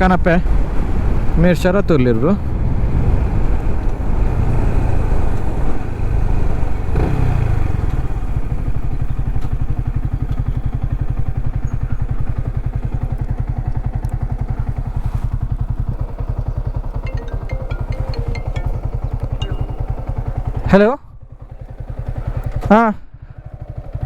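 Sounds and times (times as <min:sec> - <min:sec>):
motorcycle engine running: 0:02.4 - 0:24.0.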